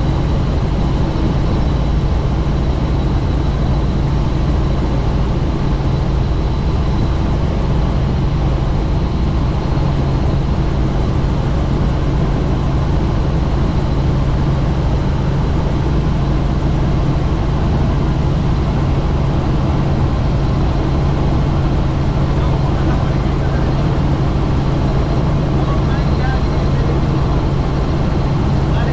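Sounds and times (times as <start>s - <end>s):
faint high whine: 0.0s - 28.9s
helicopter rotor and engine drone: 0.0s - 28.9s
rushing wind noise: 0.0s - 28.9s.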